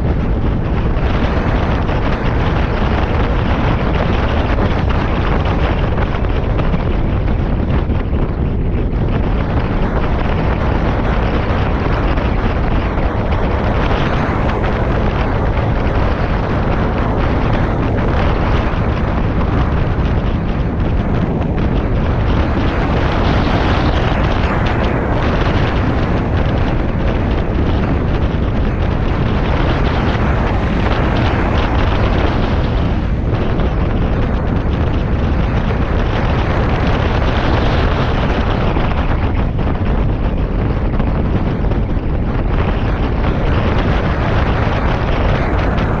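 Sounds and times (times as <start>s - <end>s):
scooter riding noise: 0.0s - 46.0s
wind rumble on microphone: 0.0s - 46.0s.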